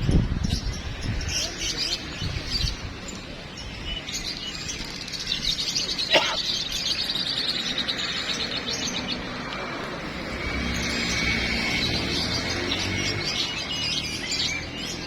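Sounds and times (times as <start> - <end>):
songbirds chirping chorus: 0.0 - 15.0.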